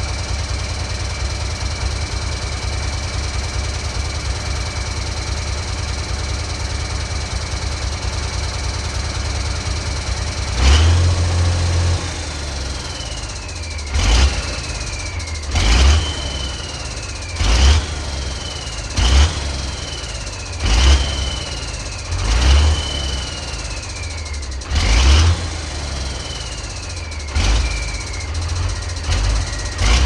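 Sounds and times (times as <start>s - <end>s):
truck engine idling and revving: 0.0s - 30.0s
turbocharger whistle: 0.0s - 30.0s.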